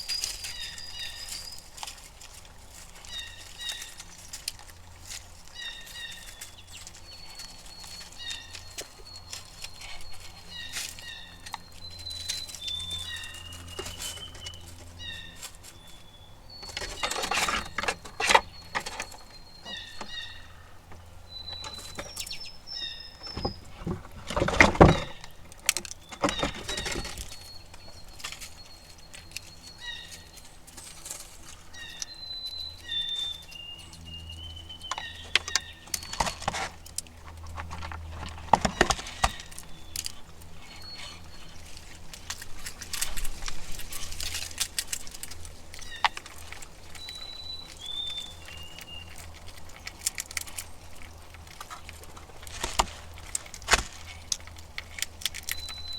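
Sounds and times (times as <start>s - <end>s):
small birds chirping: 0.0s - 55.9s
squirrels knocking and scrabbling: 0.0s - 55.9s.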